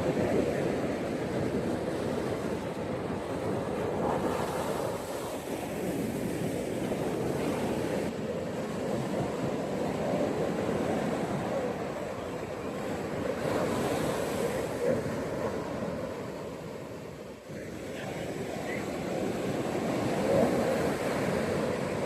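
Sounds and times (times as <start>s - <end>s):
ocean surf washing onto beach: 0.0s - 22.0s.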